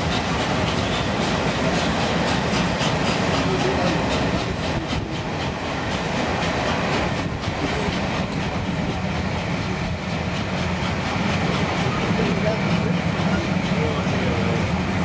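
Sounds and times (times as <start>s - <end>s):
train coaches rumbling past: 0.0s - 15.0s
wheels clickety-clack on rail joints: 0.0s - 15.0s.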